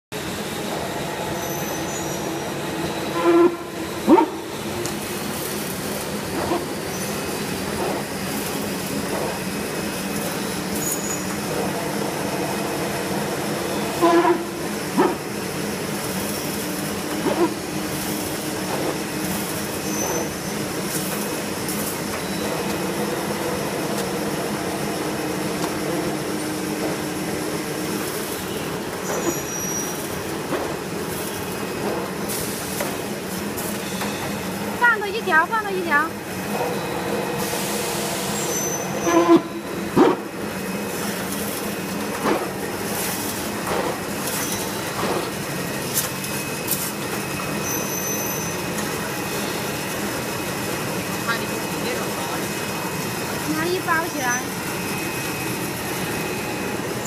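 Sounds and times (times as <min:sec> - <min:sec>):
machine drone and rattle: 0:00.1 - 0:57.0.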